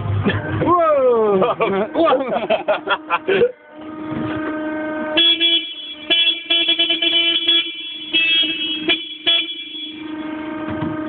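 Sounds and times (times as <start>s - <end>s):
vehicle whine: 0.0s - 11.0s
tow tractor horn honking: 1.4s - 11.0s.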